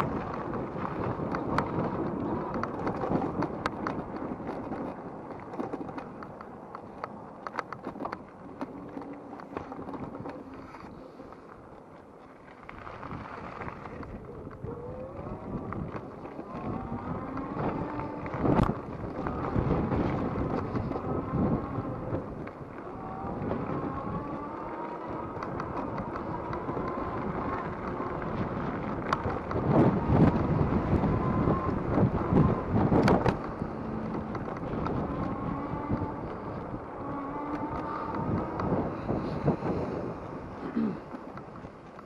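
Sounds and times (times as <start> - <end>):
e-bike rolling: 0.0 - 42.0
faint motor whine: 0.0 - 42.0
wind buffeting microphone: 0.0 - 42.0.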